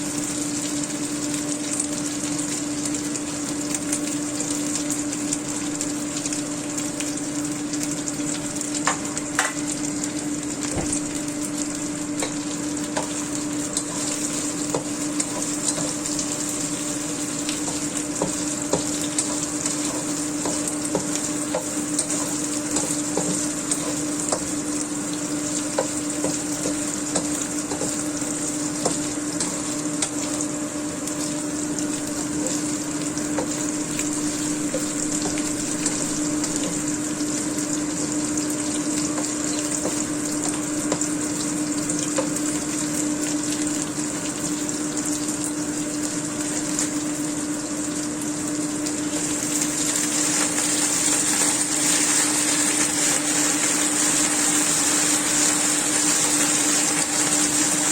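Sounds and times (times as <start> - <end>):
food sizzling in hot oil: 0.0 - 57.9
oil crackles and pops: 0.0 - 57.9.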